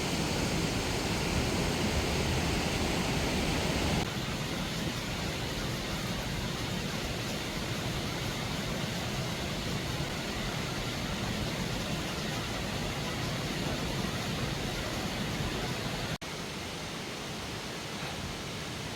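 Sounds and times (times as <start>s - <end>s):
mountain stream rushing: 0.0s - 18.9s.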